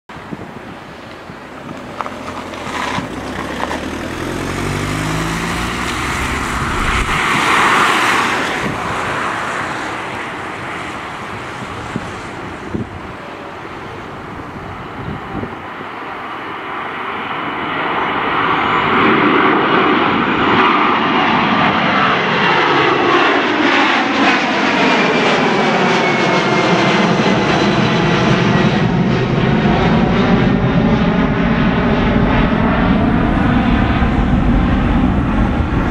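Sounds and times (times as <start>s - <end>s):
jet engines at takeoff: 0.1s - 35.9s.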